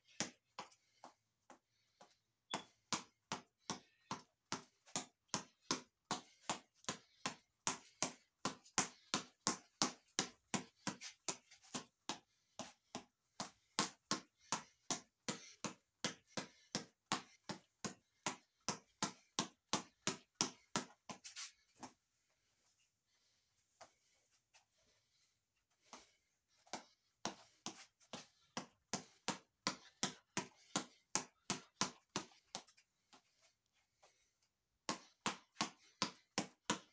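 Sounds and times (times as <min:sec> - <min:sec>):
reflex ball punching taps: 0:00.1 - 0:21.2, 0:25.8 - 0:32.8, 0:34.9 - 0:36.9.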